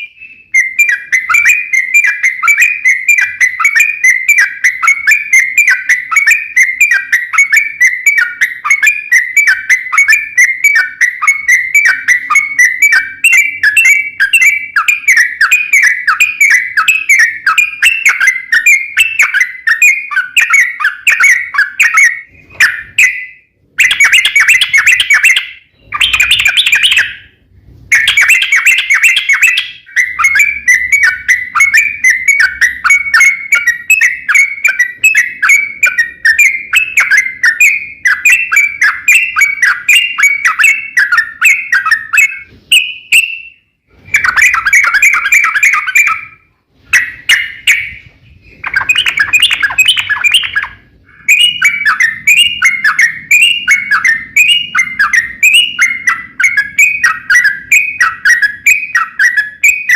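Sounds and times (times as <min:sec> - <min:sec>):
bulbul singing repeated notes: 0:00.0 - 0:59.9.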